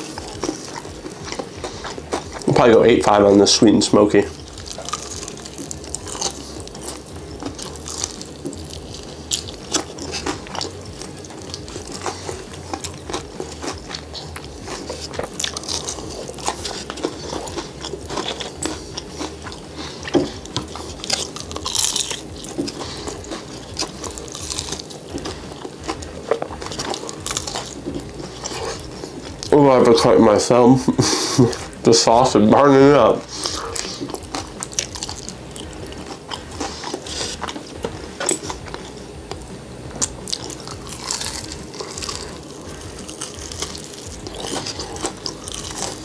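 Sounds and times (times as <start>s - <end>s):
chewing crunchy chicken wings: 0.0s - 46.0s.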